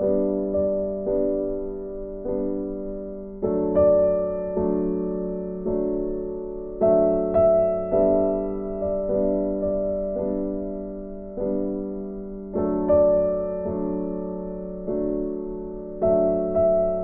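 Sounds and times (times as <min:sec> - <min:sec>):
gentle piano notes: 0:00.0 - 0:17.0.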